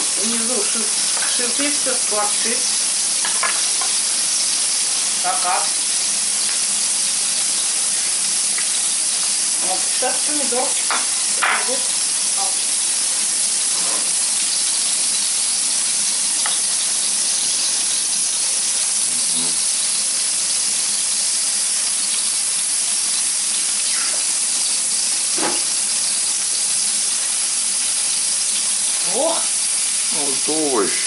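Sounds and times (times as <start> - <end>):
fat sizzling on grill: 0.0 - 31.0.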